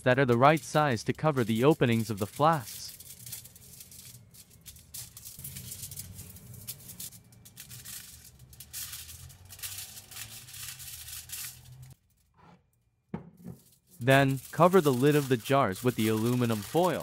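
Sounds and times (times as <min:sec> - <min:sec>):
aluminium foil crinkling: 0:00.0 - 0:12.2, 0:13.6 - 0:17.0
scissors cutting foil: 0:00.1 - 0:12.0, 0:13.6 - 0:17.0.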